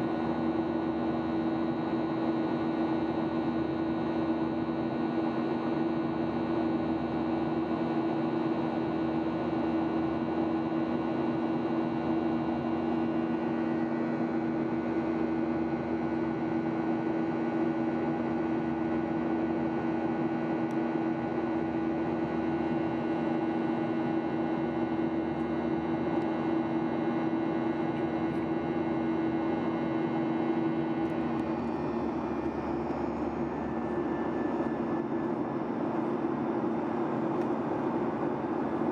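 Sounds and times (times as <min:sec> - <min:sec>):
airliner cabin engine drone: 0:00.0 - 0:38.9.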